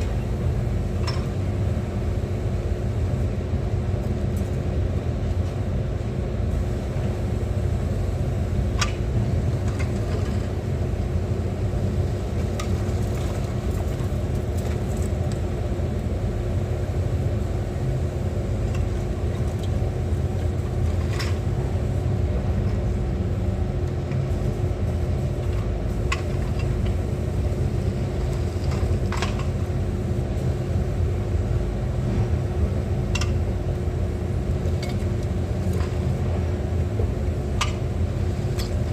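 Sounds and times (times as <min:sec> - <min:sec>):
motor running with low hum: 0:00.0 - 0:38.9.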